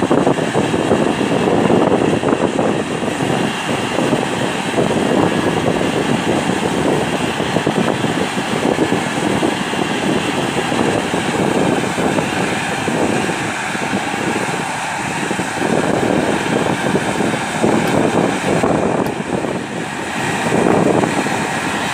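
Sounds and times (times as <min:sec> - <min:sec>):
tractor engine running rough: 0:00.0 - 0:21.9.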